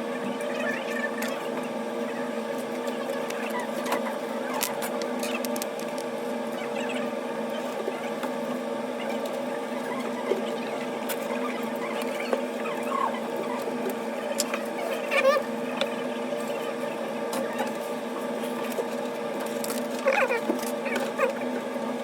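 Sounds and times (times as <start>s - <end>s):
electrical motor hum: 0.0s - 22.0s.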